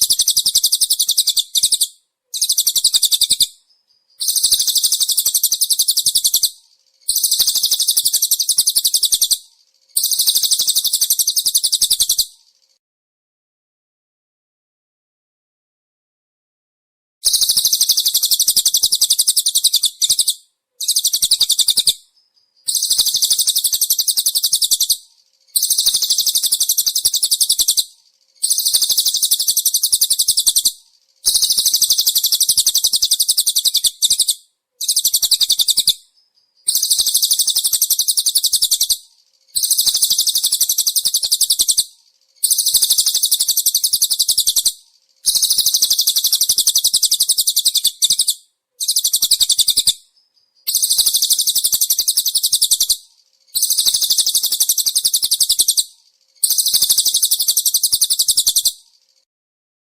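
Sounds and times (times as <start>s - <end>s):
songbird trilling: 0.0s - 12.7s, 17.2s - 53.0s, 53.6s - 58.8s.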